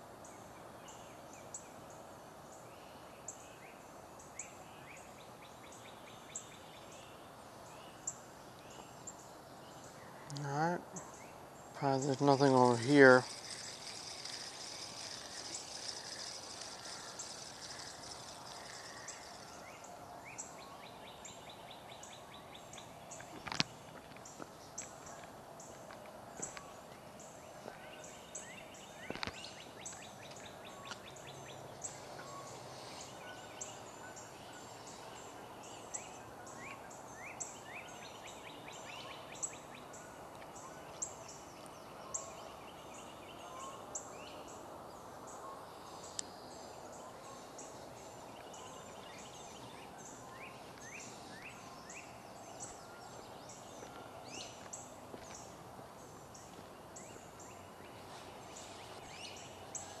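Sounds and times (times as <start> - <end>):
outdoor background hiss: 0.0 - 60.0
birds singing and calling: 0.3 - 60.0.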